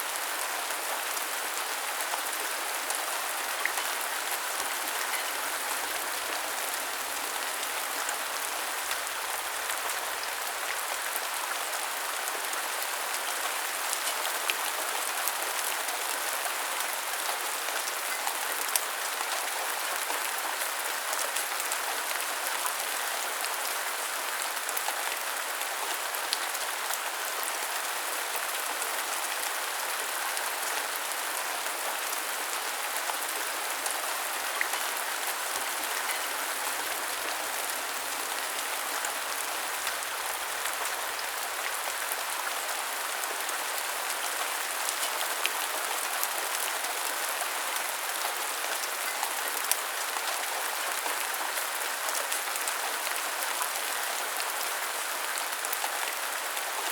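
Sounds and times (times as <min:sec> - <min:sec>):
rain on hard surfaces: 0:00.0 - 0:56.9.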